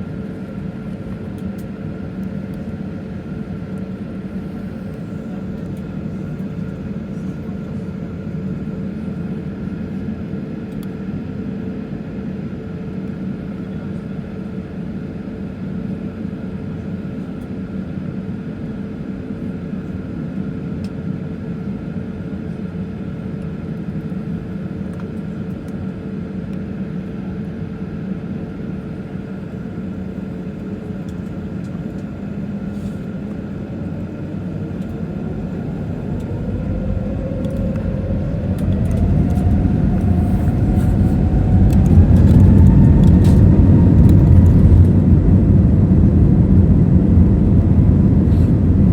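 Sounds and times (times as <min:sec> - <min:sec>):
jet engines humming and whining: 0:00.0 - 0:48.9.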